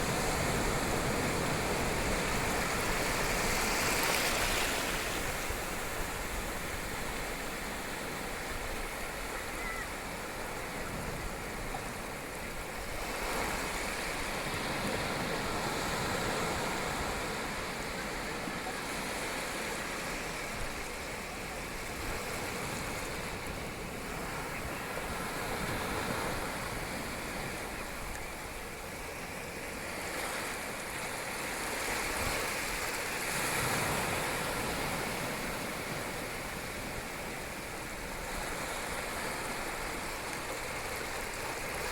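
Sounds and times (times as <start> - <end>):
ocean waves on beach: 0.0 - 41.9.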